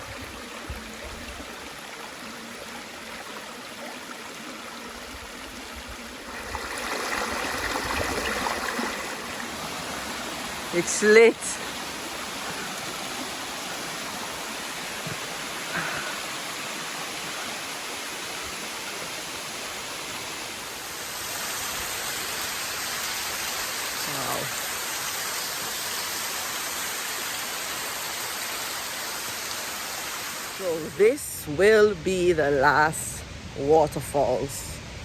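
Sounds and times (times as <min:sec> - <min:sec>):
waterfall rushing: 0:00.0 - 0:32.6.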